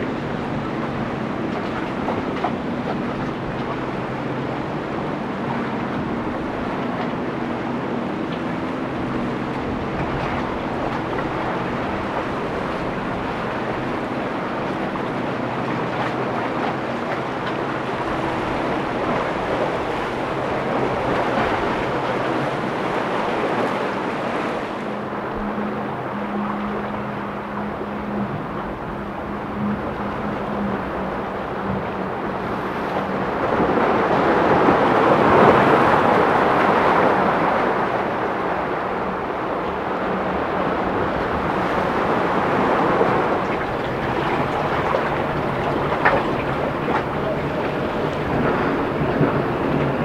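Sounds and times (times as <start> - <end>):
boat engines running: 0.0 - 50.0
waves washing: 0.0 - 50.0.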